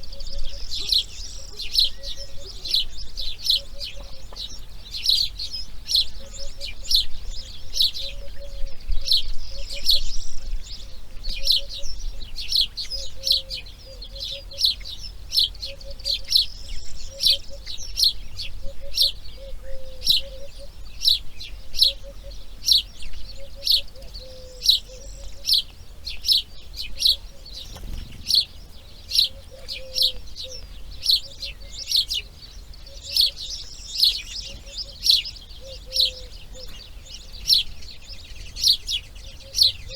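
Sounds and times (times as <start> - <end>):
lower repeated bird notes: 0.0 - 39.9.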